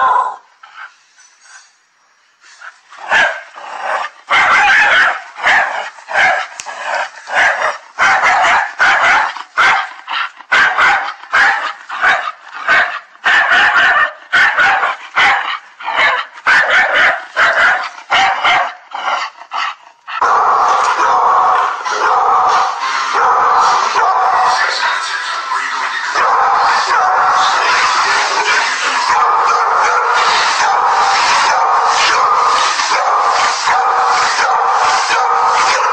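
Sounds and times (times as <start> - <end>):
dog barking: 3.0 - 35.9.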